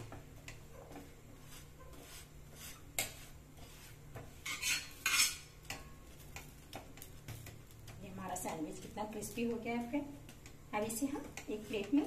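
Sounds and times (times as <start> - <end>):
spatula scraping on griddle: 0.7 - 9.2, 10.3 - 12.0.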